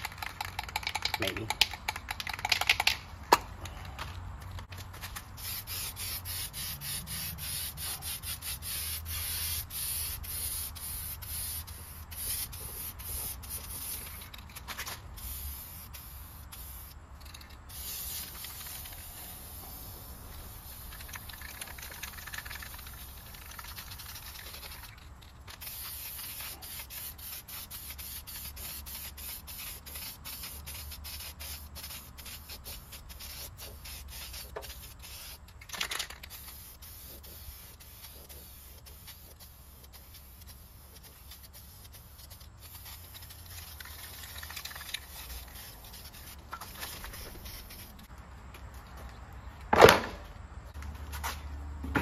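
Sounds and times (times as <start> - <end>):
spray can hissing: 5.0 - 48.1.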